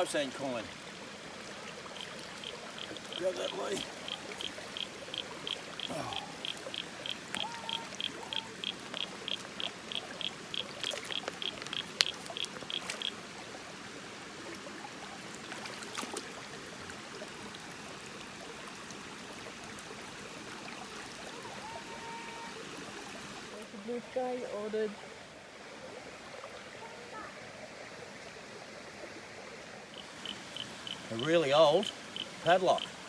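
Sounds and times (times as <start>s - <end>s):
creek water running: 0.0s - 33.0s.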